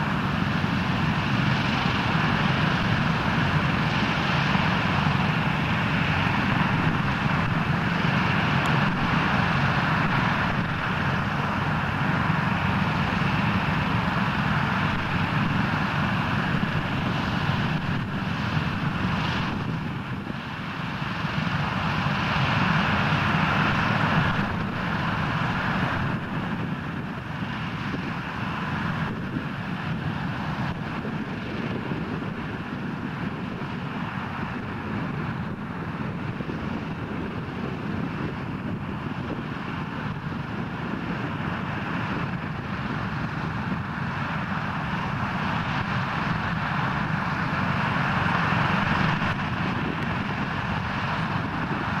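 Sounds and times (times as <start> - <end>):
propeller plane engines droning: 0.0 - 52.0.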